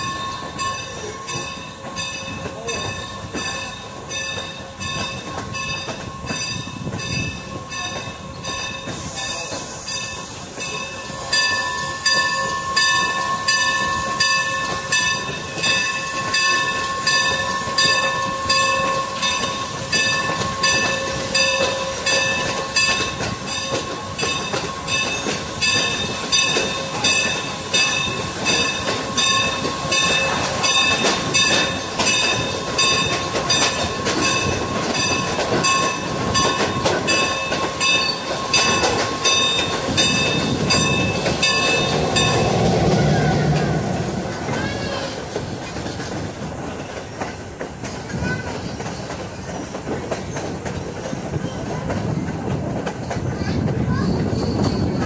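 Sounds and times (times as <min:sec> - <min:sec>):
train running along track: 0:00.0 - 0:55.0.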